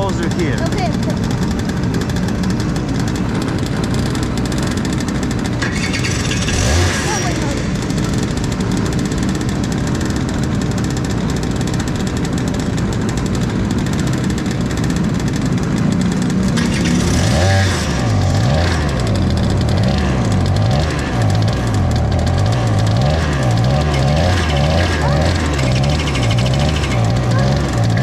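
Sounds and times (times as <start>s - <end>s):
kart engine idling and revving: 0.0s - 28.0s.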